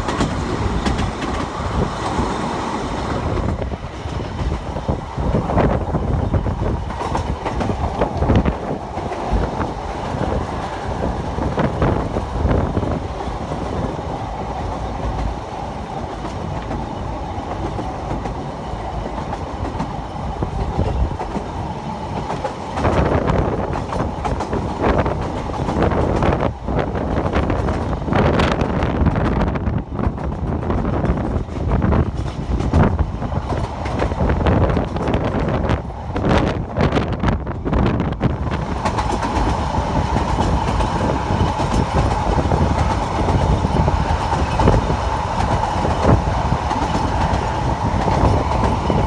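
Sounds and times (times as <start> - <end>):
train rumble inside carriage: 0.0 - 49.0.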